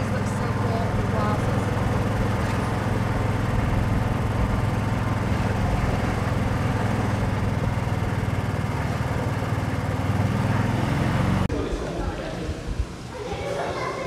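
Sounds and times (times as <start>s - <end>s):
golf cart engine humming: 0.0s - 11.5s.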